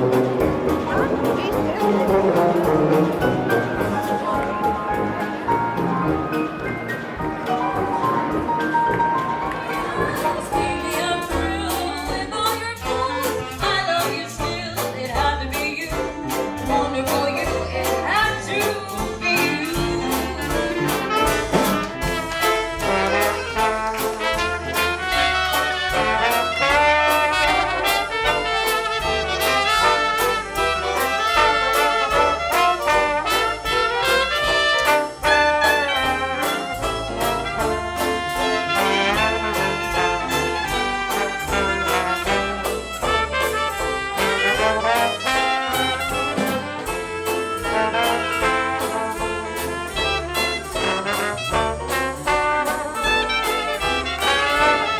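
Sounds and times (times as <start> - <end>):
brass horns playing tune: 0.0 - 14.2, 19.2 - 54.9
jazz band playing: 0.0 - 54.9.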